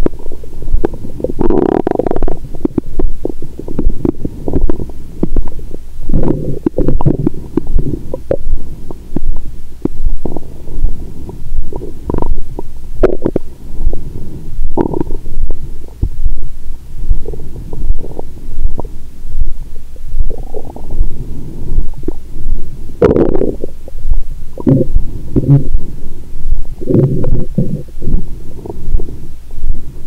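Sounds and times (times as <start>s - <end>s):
stomach gurgling and rumbling: 0.0s - 30.0s.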